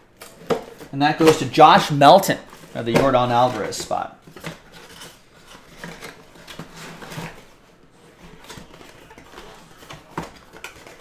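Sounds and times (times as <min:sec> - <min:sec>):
cardboard box rustling: 0:00.4 - 0:11.0.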